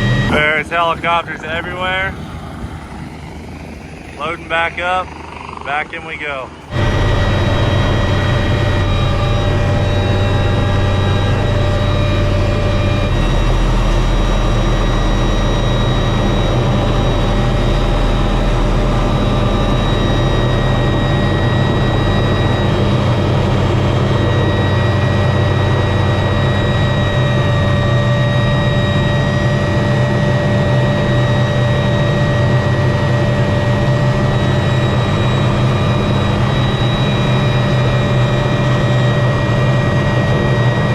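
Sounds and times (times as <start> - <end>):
helicopter rotor drone: 0.0 - 40.9
helicopter turbine whine: 0.0 - 40.9.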